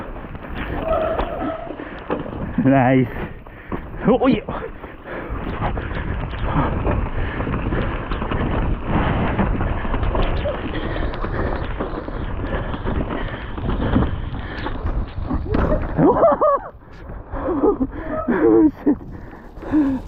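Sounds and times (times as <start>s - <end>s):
bike rattling and knocking: 0.0s - 20.0s
tyres rolling through mud: 0.0s - 20.0s
wind buffeting microphone: 0.0s - 20.0s.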